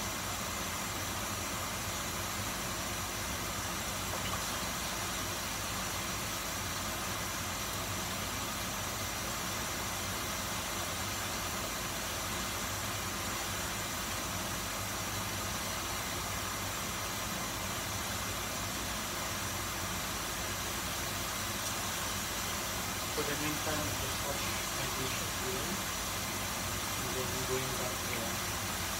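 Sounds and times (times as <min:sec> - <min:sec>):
range hood exhaust fan whirring: 0:00.0 - 0:28.9.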